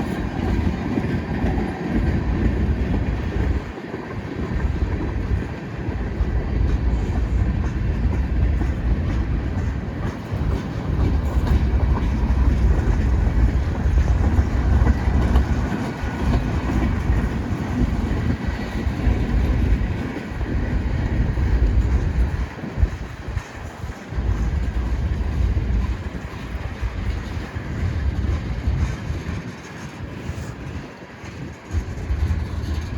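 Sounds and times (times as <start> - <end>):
freight train rumbling past: 0.0 - 32.9
train wheels clacking on rails: 0.0 - 32.9.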